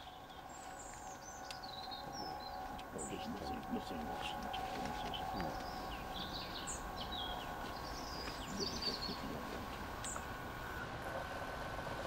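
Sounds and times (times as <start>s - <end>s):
small birds chirping: 0.0s - 10.9s
distant steam train rumble: 0.0s - 12.0s.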